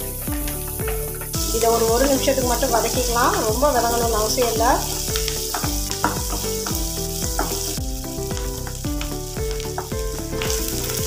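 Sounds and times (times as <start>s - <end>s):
background music with beat: 0.0s - 11.0s
shallots sizzling in hot oil: 0.0s - 11.0s
wooden spatula stirring: 0.0s - 11.0s.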